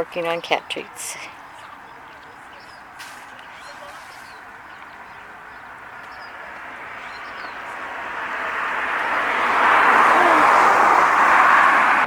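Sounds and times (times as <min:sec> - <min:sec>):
vehicle passing on road: 0:00.0 - 0:12.0.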